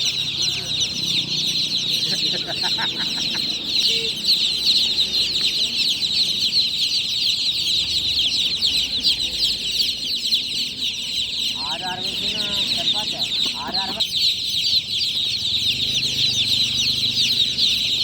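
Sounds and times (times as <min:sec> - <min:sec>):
chicks chirping: 0:00.0 - 0:18.0.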